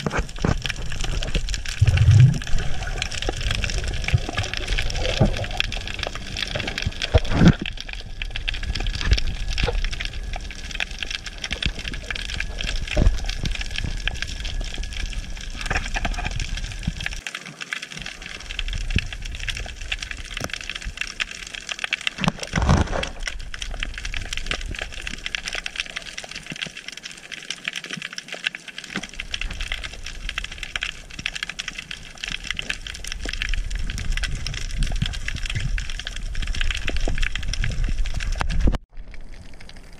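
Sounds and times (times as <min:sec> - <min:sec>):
underwater crackle of clicks: 0:00.0 - 0:39.9.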